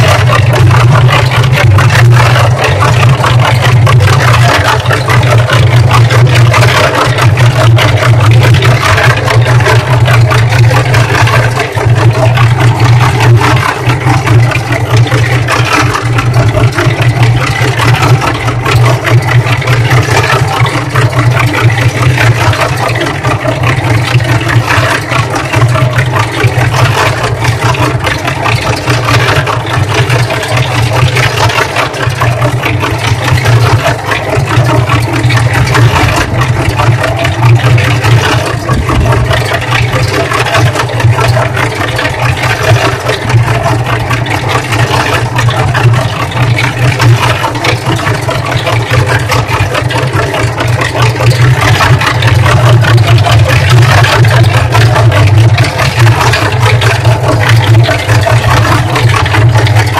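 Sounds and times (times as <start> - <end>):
cement mixer motor drone: 0.0 - 59.9
water sloshing and clothes clattering: 0.0 - 59.9.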